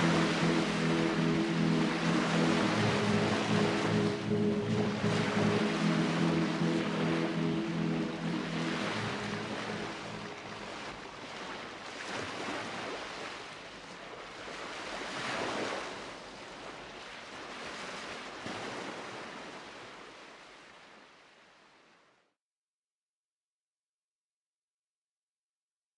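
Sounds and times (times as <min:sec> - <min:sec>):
ocean waves washing in: 0:00.0 - 0:22.0.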